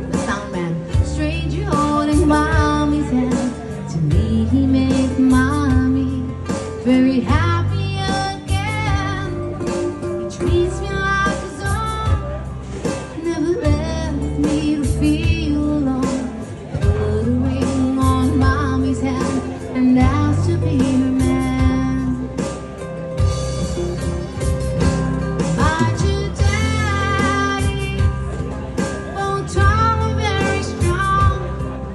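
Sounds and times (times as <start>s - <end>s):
woman singing: 0.0s - 12.4s, 13.0s - 22.6s, 25.5s - 31.9s
guitar accompaniment: 0.0s - 31.9s.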